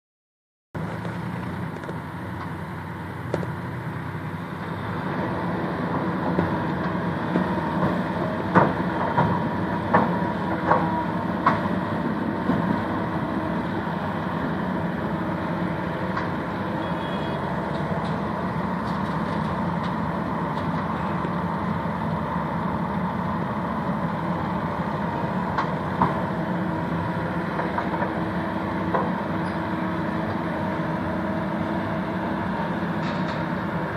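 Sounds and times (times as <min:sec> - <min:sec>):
heavy diesel machinery running: 0:00.8 - 0:33.9.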